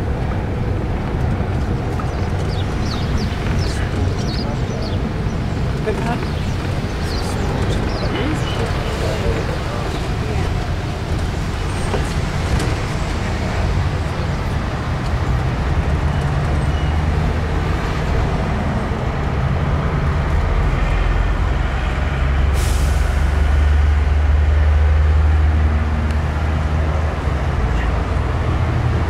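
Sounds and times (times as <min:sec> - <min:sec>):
bus engine drone: 0:00.0 - 0:29.0
road and traffic noise: 0:00.0 - 0:29.0.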